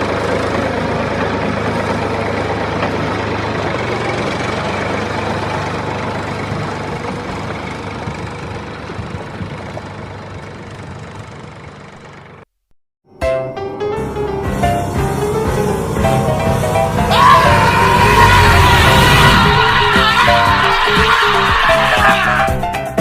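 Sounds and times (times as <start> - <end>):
vehicle engine idling: 0.0 - 12.6, 14.0 - 22.6.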